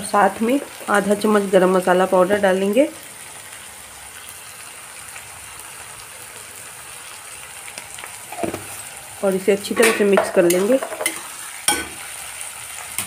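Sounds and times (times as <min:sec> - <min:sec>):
peas sizzling in oil: 0:00.0 - 0:13.0.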